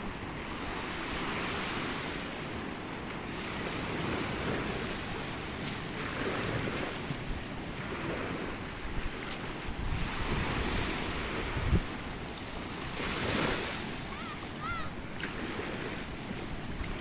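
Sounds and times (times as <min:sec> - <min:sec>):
sea waves breaking: 0:00.0 - 0:17.0
wind rumbling on microphone: 0:00.0 - 0:17.0.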